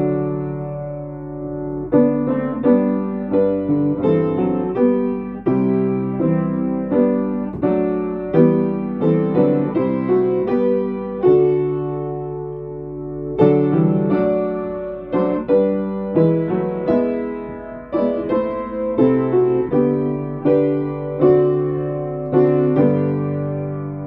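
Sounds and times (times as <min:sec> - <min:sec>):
piano playing a hymn in chords: 0:00.0 - 0:24.0.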